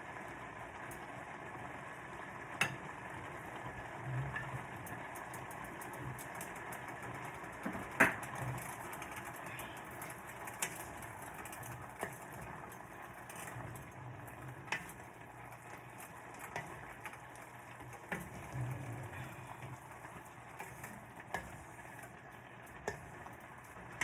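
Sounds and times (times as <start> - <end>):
stove cooking hiss and hum: 0.0 - 24.0
utensil clicking against pan: 4.3 - 24.0.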